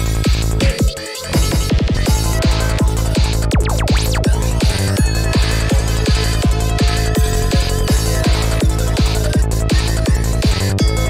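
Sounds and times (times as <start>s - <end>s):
electronic dance music: 0.0s - 11.0s
pulsing bassline: 0.0s - 11.0s
punchy kick drum: 0.0s - 11.0s.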